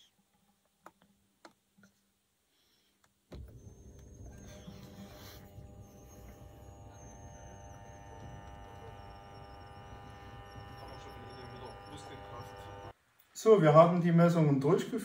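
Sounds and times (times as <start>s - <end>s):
faint electrical hum: 0.0s - 14.9s.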